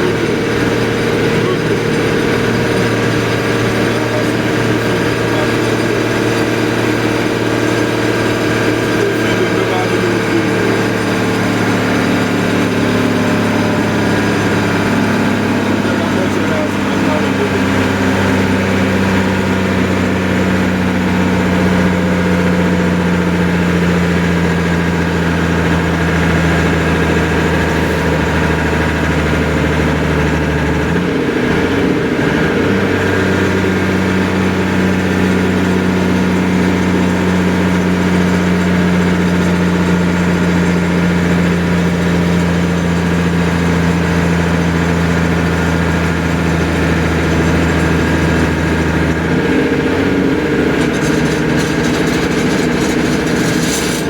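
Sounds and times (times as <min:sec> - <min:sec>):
large engine running steadily: 0:00.0 - 0:54.0.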